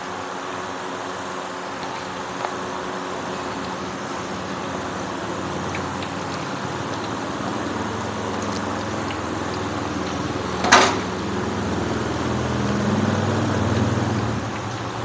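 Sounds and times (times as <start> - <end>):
chicken sizzling in hot oil: 0.5 - 15.0.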